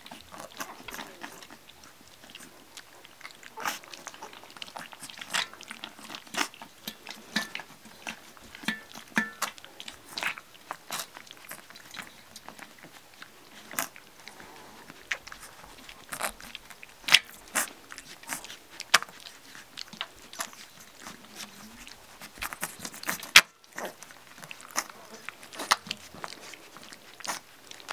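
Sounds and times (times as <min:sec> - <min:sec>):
puppies lapping milk: 0:00.0 - 0:27.9.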